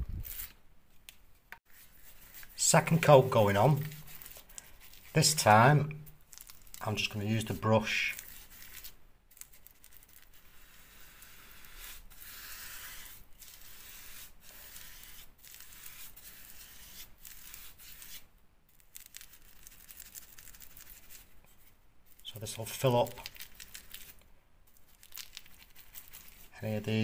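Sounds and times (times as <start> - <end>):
paintbrush scratchy brushing: 1.7 - 27.0.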